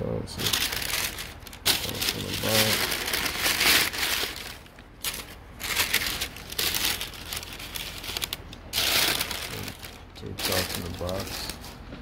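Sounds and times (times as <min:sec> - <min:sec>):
tissue paper rustling: 0:00.4 - 0:11.8.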